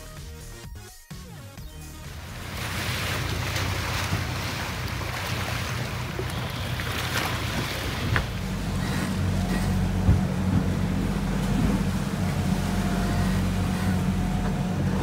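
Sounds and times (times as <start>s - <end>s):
water splashing past boat hull: 2.1s - 15.0s.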